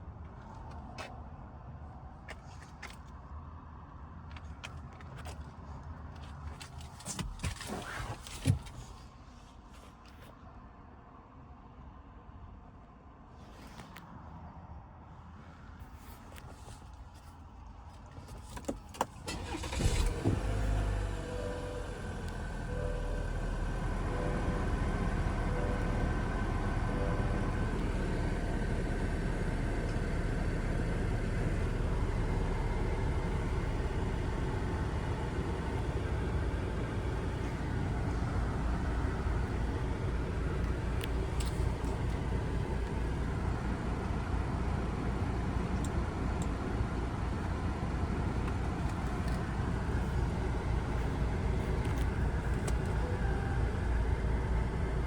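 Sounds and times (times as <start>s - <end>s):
vehicle low rumble: 0.0s - 55.0s.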